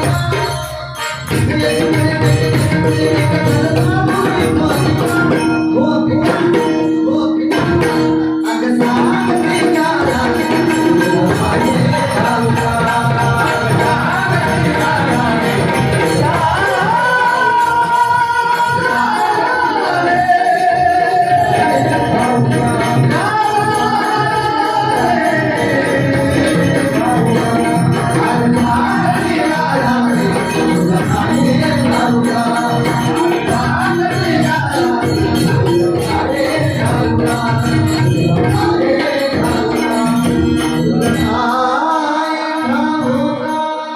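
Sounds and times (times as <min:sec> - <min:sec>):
jingling hand percussion: 0:00.0 - 0:43.9
person singing devotional song: 0:00.0 - 0:43.9.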